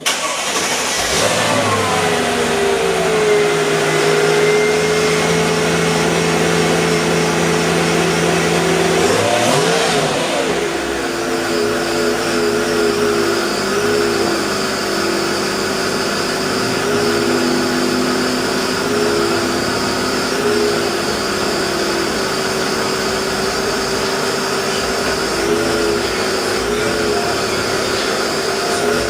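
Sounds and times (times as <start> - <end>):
car engine humming: 0.0 - 29.0.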